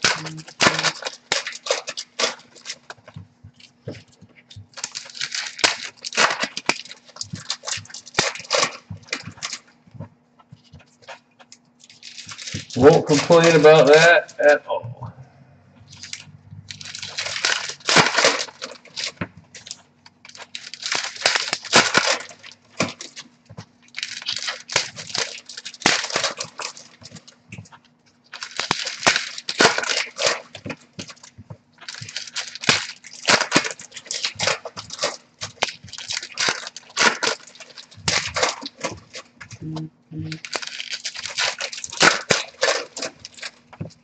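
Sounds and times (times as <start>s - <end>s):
card wrappers crinkling and tearing: 0.0s - 14.7s, 15.8s - 44.0s
sharp wrapper crackles: 0.0s - 14.8s, 15.7s - 44.0s.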